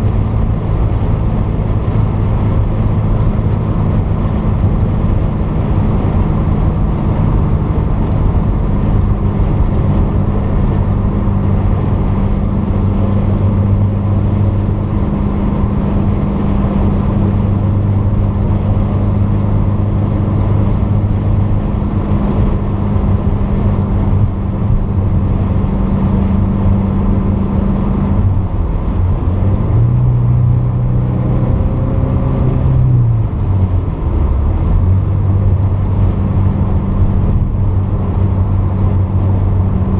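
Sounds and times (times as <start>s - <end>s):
car engine running: 0.0s - 39.9s
road noise rumble: 0.0s - 39.9s.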